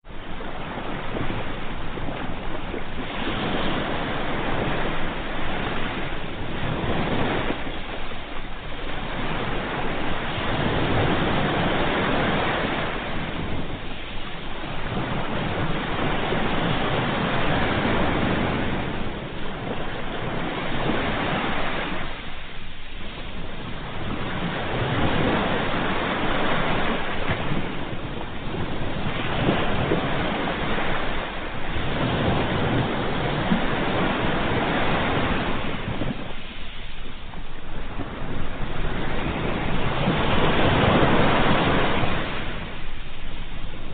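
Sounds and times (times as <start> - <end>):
ocean waves breaking on shore: 0.0 - 43.9.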